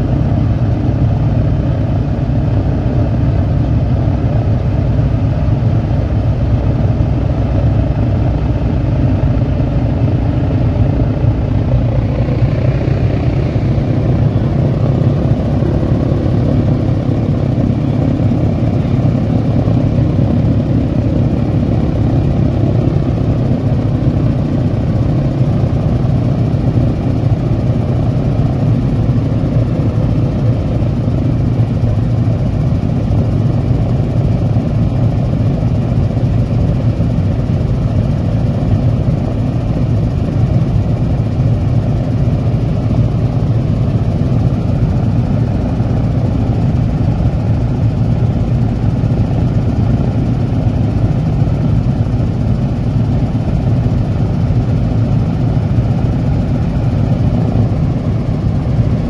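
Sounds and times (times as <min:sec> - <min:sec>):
aircraft radial engines idling: 0:00.0 - 0:59.0.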